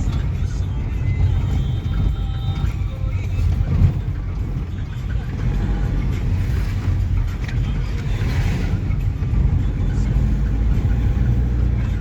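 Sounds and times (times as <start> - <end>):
car rumbling: 0.0 - 12.0.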